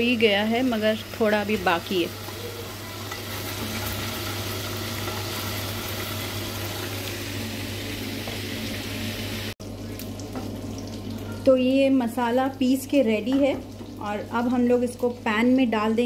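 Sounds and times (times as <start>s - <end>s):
chicken sizzling in oil: 0.0s - 15.9s.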